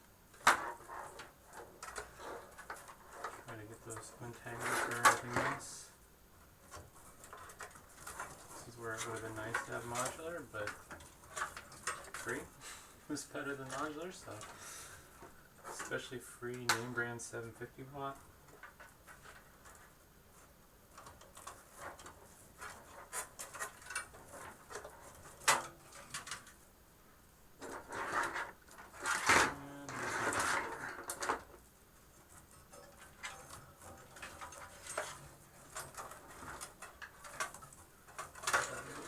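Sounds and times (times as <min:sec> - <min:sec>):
cables rustling and rubbing: 0:00.4 - 0:26.8, 0:27.6 - 0:39.0.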